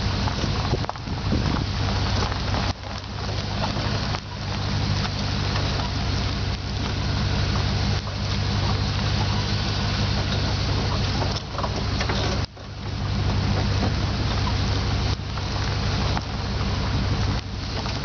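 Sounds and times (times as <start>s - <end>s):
constant rushing noise: 0.0s - 18.0s
vehicle engine running: 0.0s - 18.0s.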